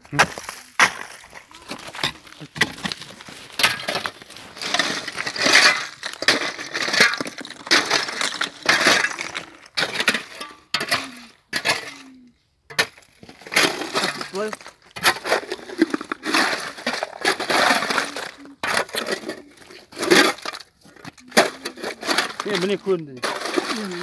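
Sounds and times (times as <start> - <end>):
shovel striking and scraping ice: 0.1 - 12.1, 12.7 - 24.0
ice chunks clinking: 0.1 - 24.0.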